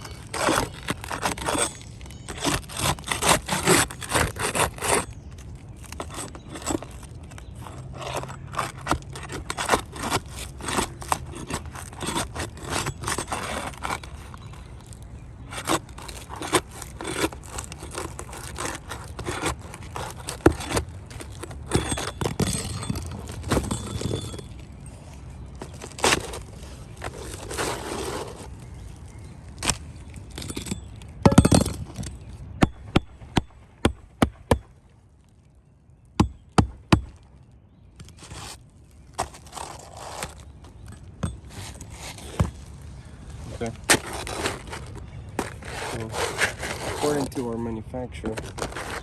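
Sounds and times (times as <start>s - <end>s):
irregular scraping: 0.0s - 32.4s, 38.0s - 49.0s.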